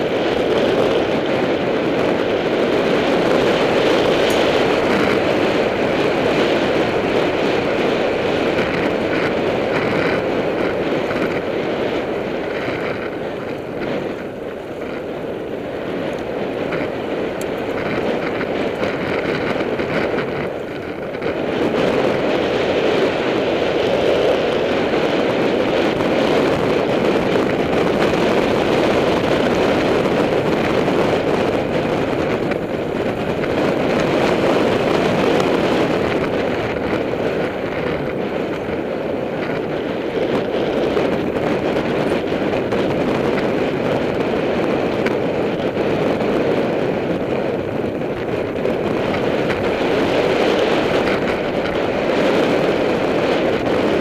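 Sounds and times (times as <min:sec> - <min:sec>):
tyres rolling over gravel: 0:00.0 - 0:54.0
wind rushing on microphone: 0:00.0 - 0:54.0.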